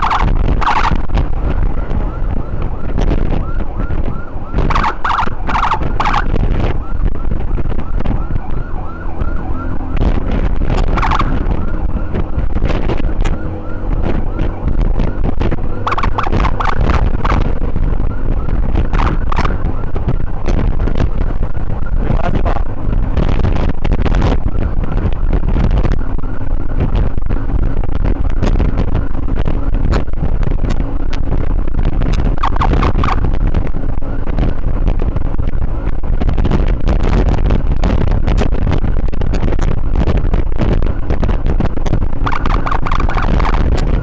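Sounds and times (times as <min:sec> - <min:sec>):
wind rush on microphone: 0:00.0 - 0:44.0.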